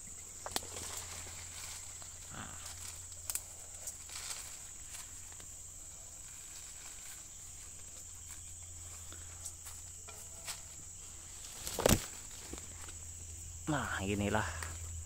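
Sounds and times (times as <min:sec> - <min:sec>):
high-pitched insect drone: 0:00.0 - 0:15.0
footsteps on the ground: 0:00.6 - 0:13.0.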